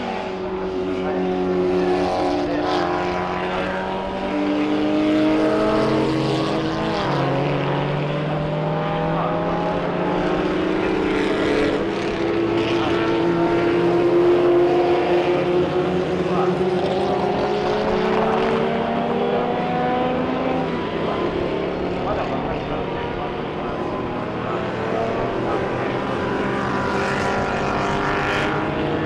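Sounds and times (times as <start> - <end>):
racing car engines: 0.0 - 29.0.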